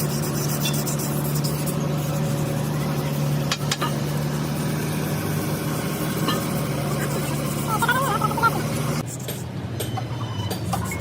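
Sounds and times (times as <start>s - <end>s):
machine droning: 0.0s - 9.2s.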